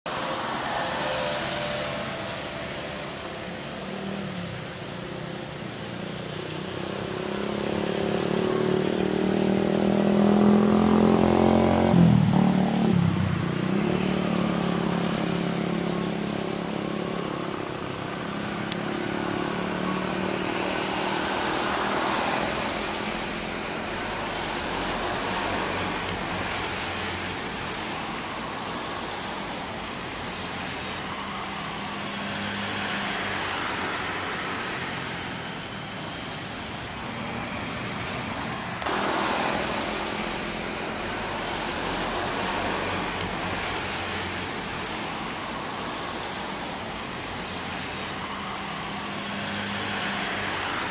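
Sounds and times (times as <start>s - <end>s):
jet engines whining and rumbling: 0.1s - 50.9s.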